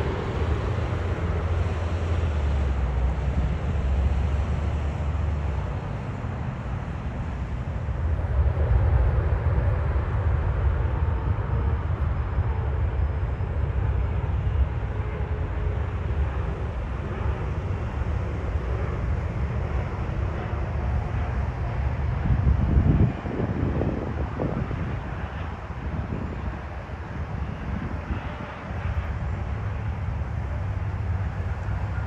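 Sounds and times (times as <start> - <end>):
jet engines landing: 0.0 - 32.0
road traffic rumble: 0.0 - 32.0.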